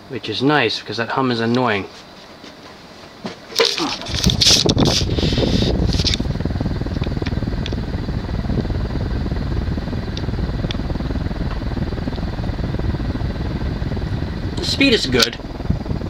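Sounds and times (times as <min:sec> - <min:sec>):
ceiling fan air rush: 0:00.0 - 0:16.0.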